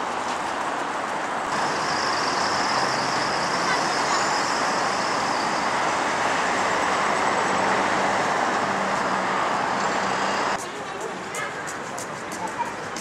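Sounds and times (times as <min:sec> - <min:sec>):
cars driving past: 0:00.0 - 0:10.6.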